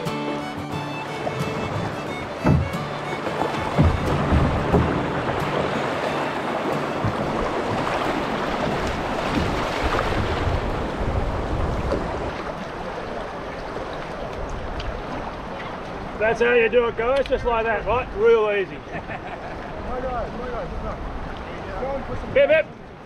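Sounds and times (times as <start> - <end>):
river rapids rushing: 0.0 - 18.8.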